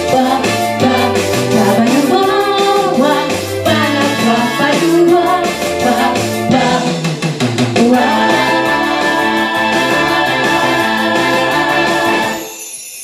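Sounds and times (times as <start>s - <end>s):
person singing: 0.0s - 7.1s, 7.8s - 12.5s
steady drum beat: 0.0s - 12.4s
instrumental accompaniment: 0.0s - 13.0s.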